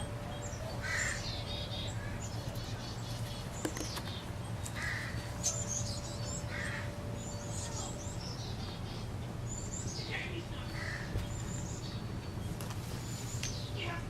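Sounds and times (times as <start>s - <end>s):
steady low hum: 0.0s - 14.0s
wild birds calling: 0.0s - 14.0s.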